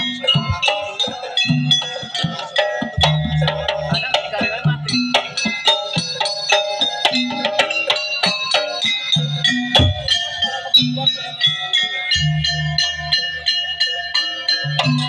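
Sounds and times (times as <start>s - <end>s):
hand drums beating fast rhythm: 0.0s - 12.8s
ringing struck metal instruments: 0.0s - 15.0s.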